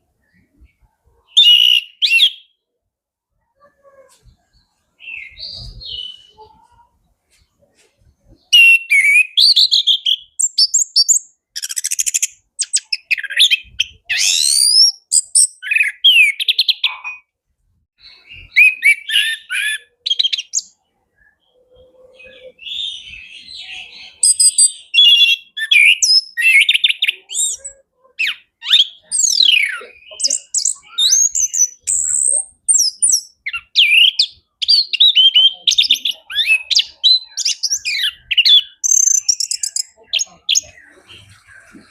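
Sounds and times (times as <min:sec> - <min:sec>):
bird singing whistled trills: 0:00.2 - 0:02.6, 0:05.0 - 0:06.5, 0:08.4 - 0:17.3, 0:18.0 - 0:41.9.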